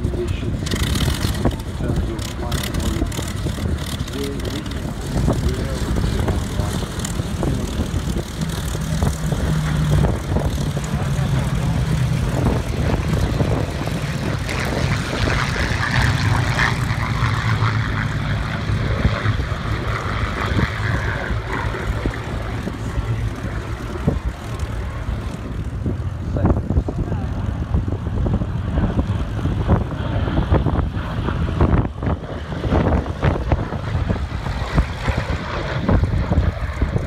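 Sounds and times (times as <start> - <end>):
propeller planes droning past: 0.0 - 37.0.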